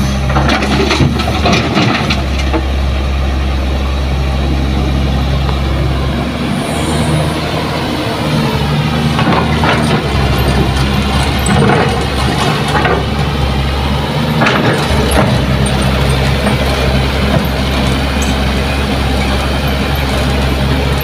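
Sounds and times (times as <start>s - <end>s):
diesel engines droning: 0.0s - 21.0s.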